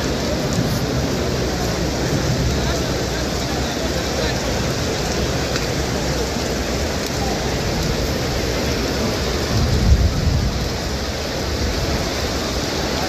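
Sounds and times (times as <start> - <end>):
rain on stone paving: 0.0 - 13.0.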